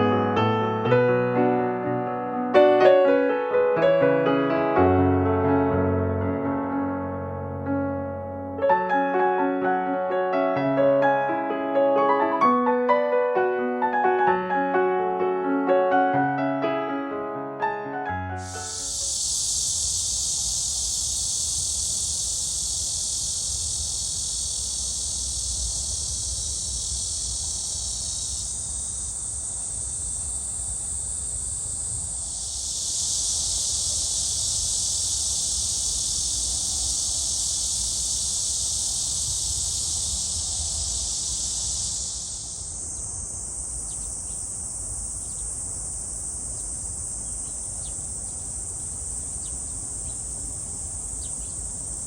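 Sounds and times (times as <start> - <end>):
cicadas buzzing: 0.0 - 5.8, 8.6 - 16.6, 18.1 - 52.0.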